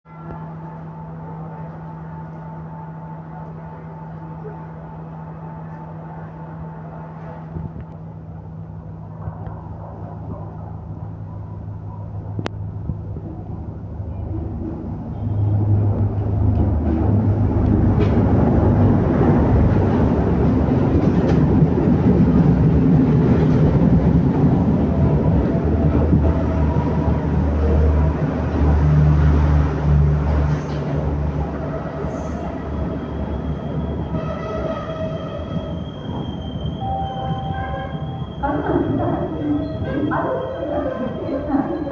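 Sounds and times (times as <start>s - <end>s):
train engine hum: 0.1s - 41.9s
train wheel and rail noise: 0.1s - 41.9s.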